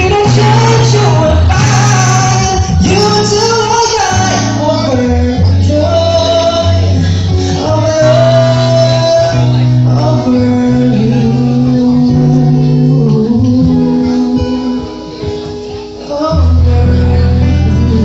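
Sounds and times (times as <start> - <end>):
bass notes: 0.0 - 18.0
person singing long notes: 0.0 - 18.0.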